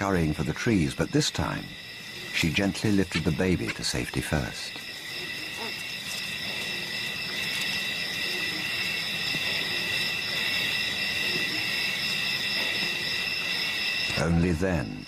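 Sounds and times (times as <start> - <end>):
insect chorus high tones: 0.0 - 15.0.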